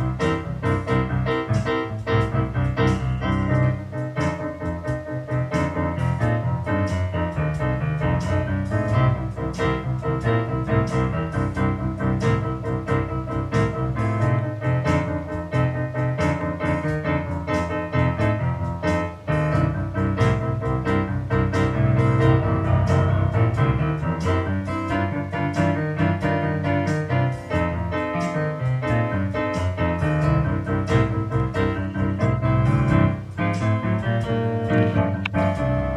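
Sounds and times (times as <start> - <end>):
solo piano music: 0.0 - 35.9.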